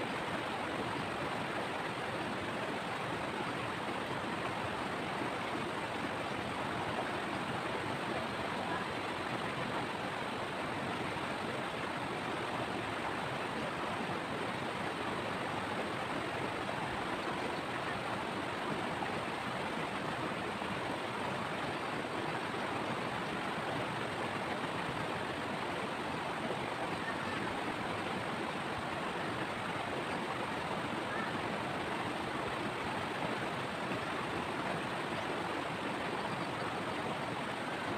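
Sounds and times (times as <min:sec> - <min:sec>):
water rushing over rocks: 0:00.0 - 0:37.9.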